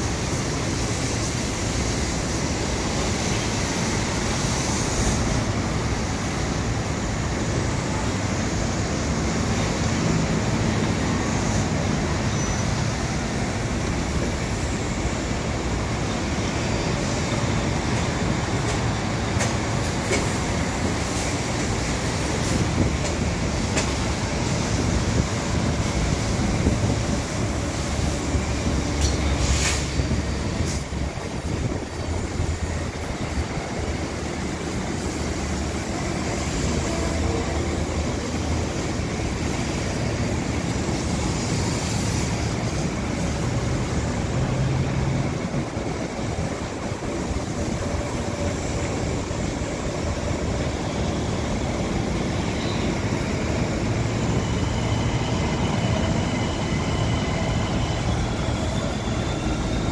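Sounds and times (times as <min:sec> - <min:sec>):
sharp clicks of train wheels: 0:00.0 - 0:59.9
train wheels rumbling on rail: 0:00.0 - 0:59.9.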